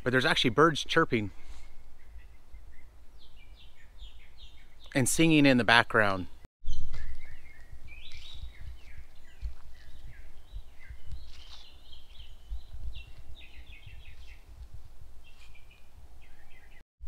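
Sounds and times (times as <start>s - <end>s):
songbirds chirping and singing: 0.1s - 14.6s, 15.2s - 16.8s.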